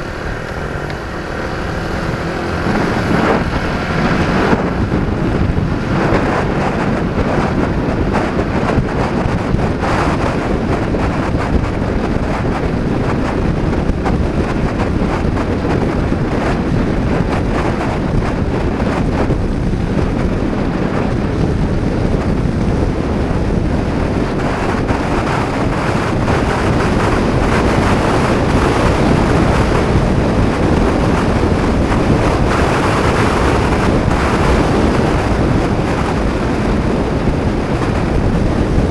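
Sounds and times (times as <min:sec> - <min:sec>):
road noise: 0:00.0 - 0:38.9
scooter engine running: 0:00.0 - 0:38.9
wind buffeting microphone: 0:00.0 - 0:38.9.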